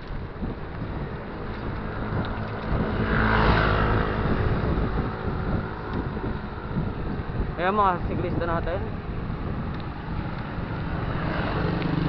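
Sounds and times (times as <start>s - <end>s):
motor vehicle passing: 0.0s - 8.0s, 8.8s - 12.0s
wind rushing over microphone: 0.0s - 12.0s.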